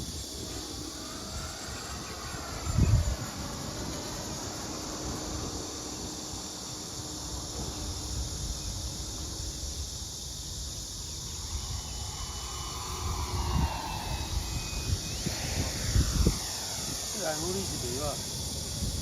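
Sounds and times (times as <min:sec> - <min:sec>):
faint falling whine: 0:00.0 - 0:19.0
high-pitched hiss: 0:00.0 - 0:19.0
wind buffeting microphone: 0:00.0 - 0:19.0.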